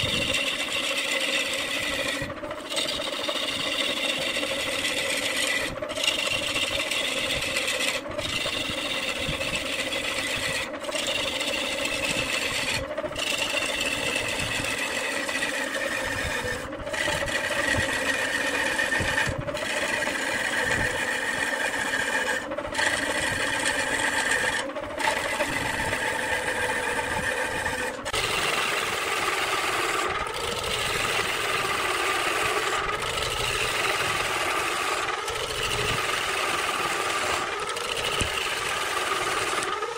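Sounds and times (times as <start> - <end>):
turning tool scraping wood: 0.0 - 39.9
wood lathe humming: 0.0 - 39.9.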